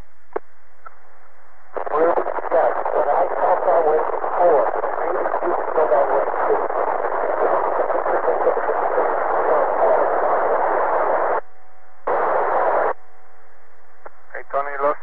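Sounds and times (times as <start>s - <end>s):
faint steady low hum: 0.0s - 15.0s
radio static hiss: 1.6s - 13.0s, 13.8s - 15.0s.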